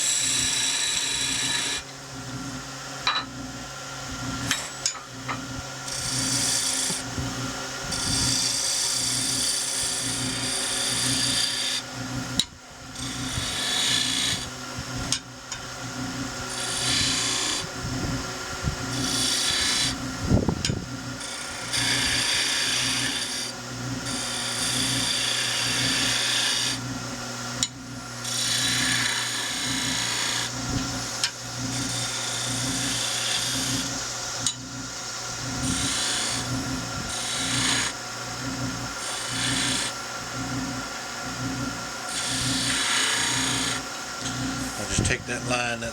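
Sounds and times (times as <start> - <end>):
wood lathe humming: 0.0 - 45.9.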